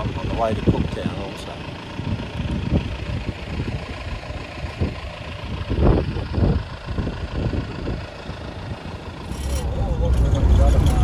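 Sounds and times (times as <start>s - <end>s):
wind buffeting microphone: 2.0s - 11.0s.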